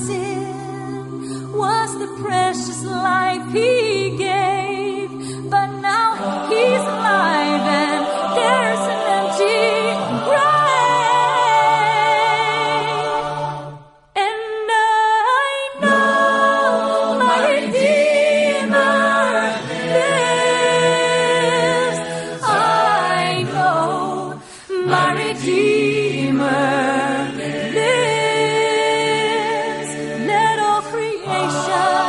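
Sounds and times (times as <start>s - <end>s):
voices singing in harmony: 0.0s - 32.0s.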